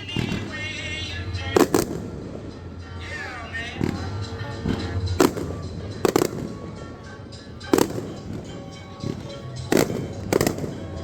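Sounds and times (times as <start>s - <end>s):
fireworks exploding: 0.0s - 11.0s
music playing: 0.0s - 11.0s.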